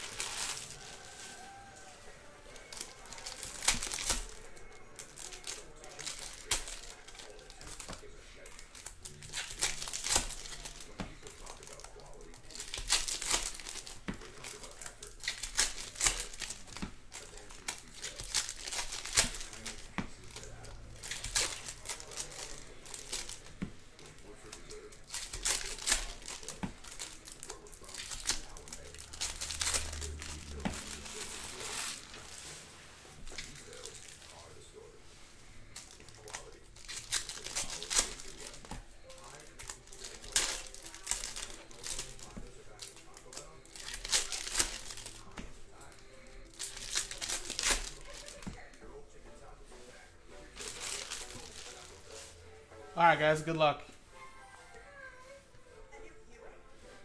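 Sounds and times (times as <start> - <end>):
cards shuffled against each other: 0.0 - 34.4, 35.6 - 48.7
foil wrappers crinkling and tearing: 0.0 - 52.4, 53.0 - 54.8.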